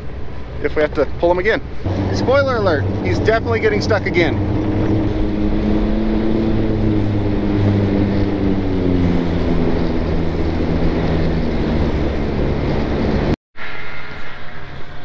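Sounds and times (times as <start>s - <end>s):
vehicle engine droning: 0.0s - 13.4s.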